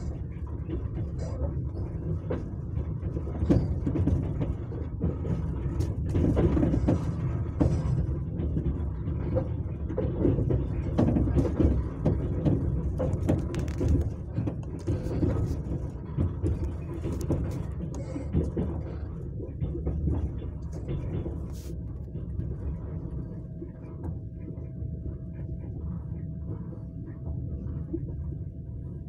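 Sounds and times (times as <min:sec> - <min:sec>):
train wheels rumbling: 0:00.0 - 0:24.1
train knocks and rattles: 0:00.0 - 0:24.3.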